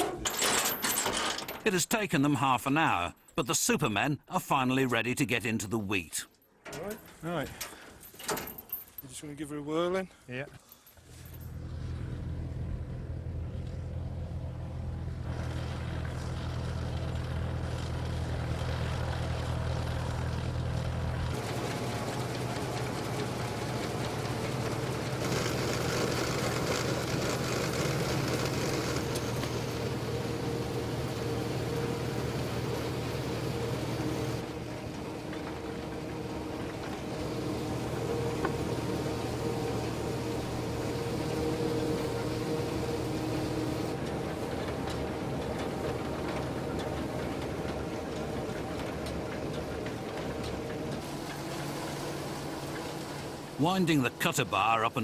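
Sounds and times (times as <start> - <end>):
combine harvester engine and threshing: 10.6 - 55.0.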